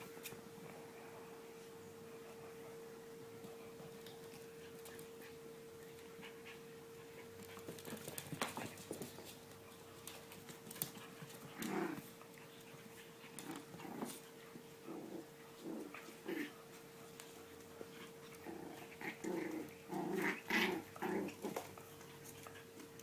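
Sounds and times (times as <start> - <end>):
puppy paws clicking and scuffling: 3.2 - 23.0.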